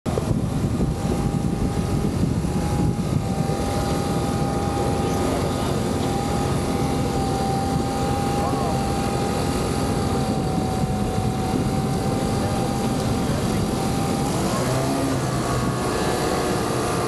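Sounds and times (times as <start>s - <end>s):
high steady whine: 0.0s - 17.0s
boat engines droning: 0.1s - 17.0s.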